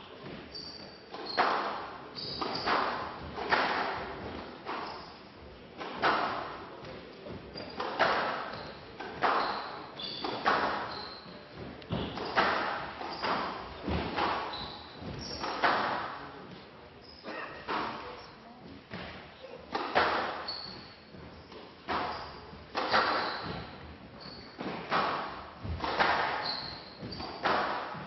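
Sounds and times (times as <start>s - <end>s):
shoes squeaking on court floor: 0.1s - 3.3s, 4.0s - 5.2s, 7.3s - 15.8s, 16.5s - 18.4s, 19.0s - 28.0s
squash ball hitting rackets and walls: 0.2s - 16.3s, 18.9s - 28.0s.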